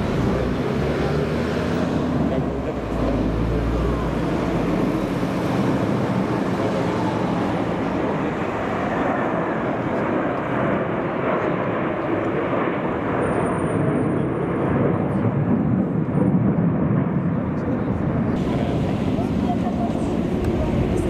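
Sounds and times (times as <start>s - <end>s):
jet engines rumbling overhead: 0.0s - 21.0s.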